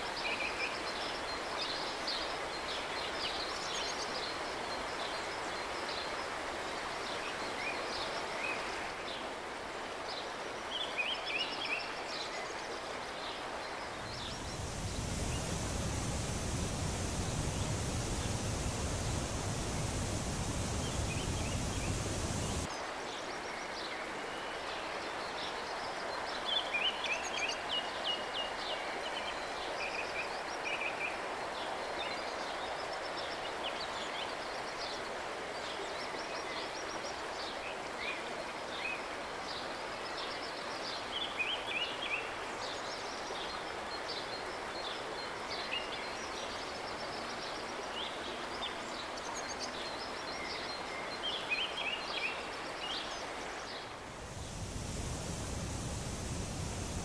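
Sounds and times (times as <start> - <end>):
rushing river water: 0.0 - 57.0
steady outdoor hiss: 0.0 - 57.0.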